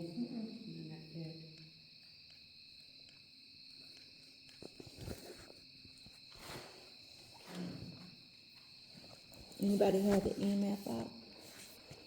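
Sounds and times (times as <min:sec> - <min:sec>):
insect chorus chirring: 0:00.0 - 0:12.0.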